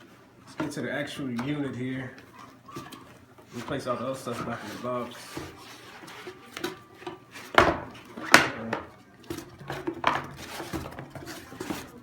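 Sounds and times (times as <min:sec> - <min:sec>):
rubbing of packaging: 0:00.0 - 0:12.0
packaging clattering and clicking: 0:02.2 - 0:12.0.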